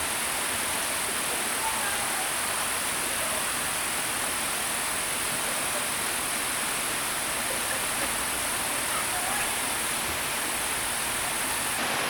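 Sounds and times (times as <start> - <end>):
flowing water rushing: 0.0 - 12.0
high hiss: 0.0 - 12.0.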